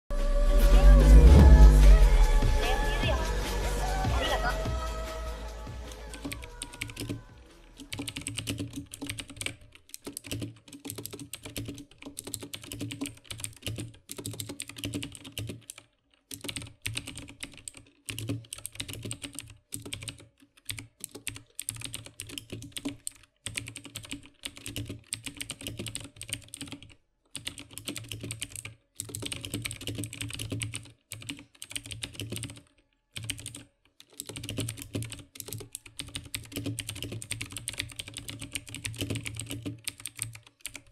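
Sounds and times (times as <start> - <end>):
typing on mechanical keyboard: 5.9 - 40.9.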